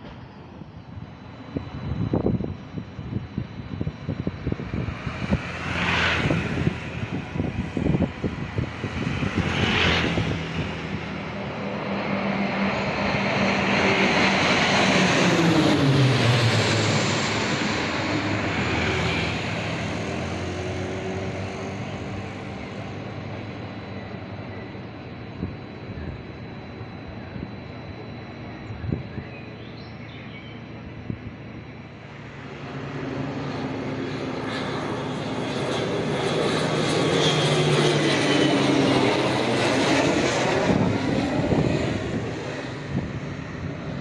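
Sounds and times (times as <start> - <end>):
propeller planes flying over: 0.0 - 44.0.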